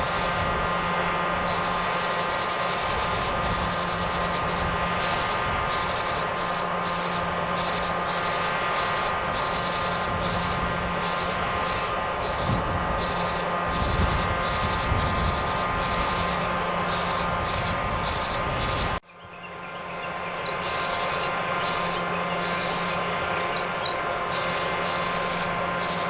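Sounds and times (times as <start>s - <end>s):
bird calling in rattling bursts: 0.0s - 26.0s
steady hum: 0.0s - 26.0s.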